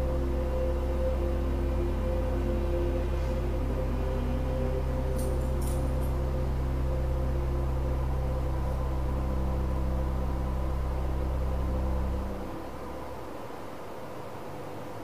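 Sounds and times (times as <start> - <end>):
church organ low chord: 0.0 - 13.8.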